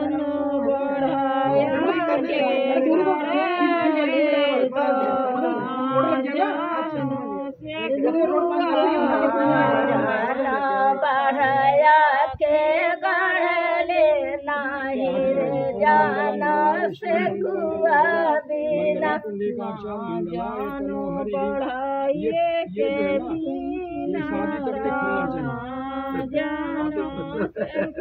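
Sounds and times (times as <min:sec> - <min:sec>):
women singing folk song: 0:00.0 - 0:28.0.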